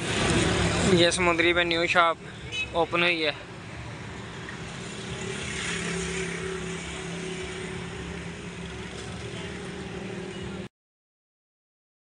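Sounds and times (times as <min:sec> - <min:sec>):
street noise: 0:00.0 - 0:10.7.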